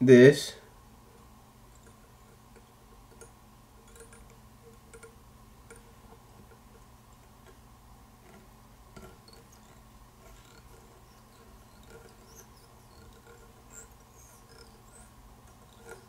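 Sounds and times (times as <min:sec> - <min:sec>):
low room hum: 0:00.0 - 0:16.0
small ticks and clicks of wire: 0:01.0 - 0:16.0.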